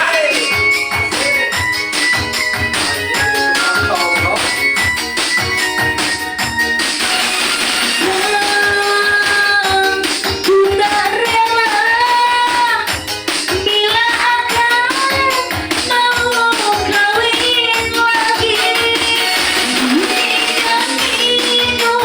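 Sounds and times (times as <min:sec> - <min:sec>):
tambourine-like percussion: 0:00.0 - 0:22.0.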